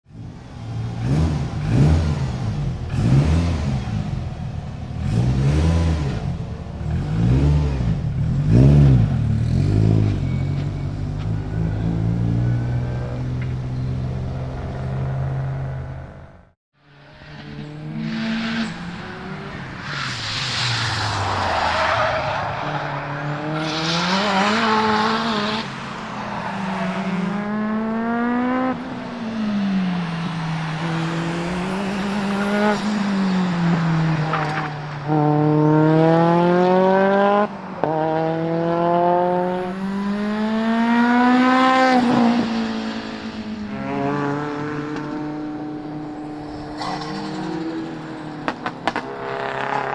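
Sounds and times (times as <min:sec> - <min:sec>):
rally car engine revving: 0:00.1 - 0:49.9.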